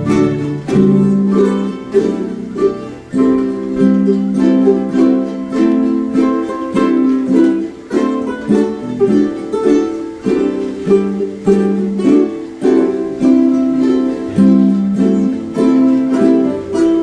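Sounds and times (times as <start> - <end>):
ukuleles strumming chords: 0.0 - 17.0.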